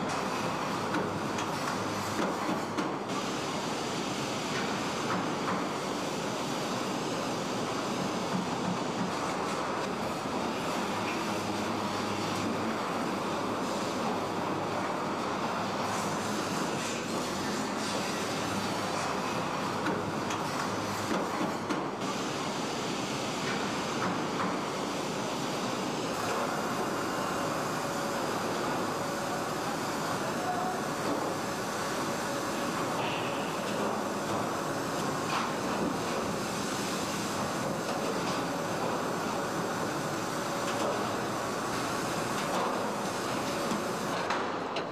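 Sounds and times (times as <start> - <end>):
assembly line machinery noise: 0.0 - 44.9.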